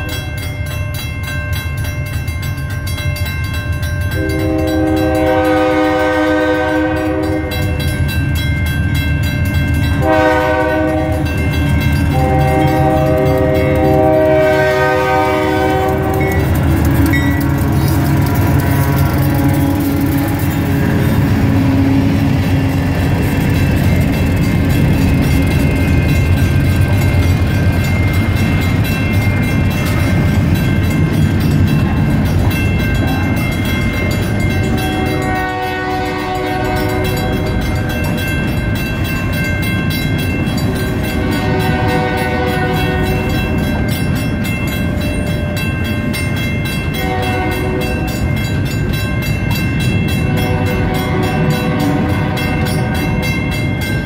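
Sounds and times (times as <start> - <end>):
diesel locomotive engine rumble: 0.0 - 54.0
wagon wheels rumbling on rail: 0.0 - 54.0.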